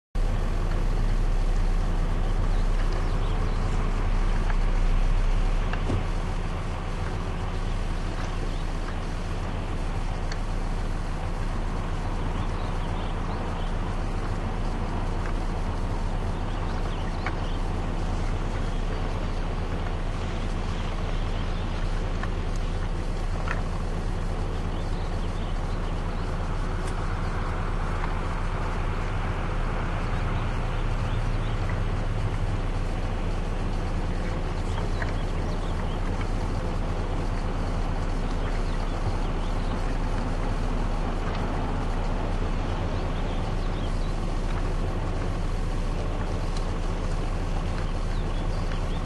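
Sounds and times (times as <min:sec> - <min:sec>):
faint ticks: 0:00.2 - 0:49.0
vehicle engine idling: 0:00.2 - 0:49.0.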